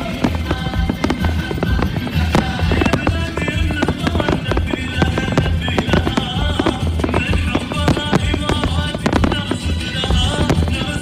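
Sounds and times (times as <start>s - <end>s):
fireworks banging and crackling: 0.0s - 11.0s
music playing: 0.0s - 11.0s.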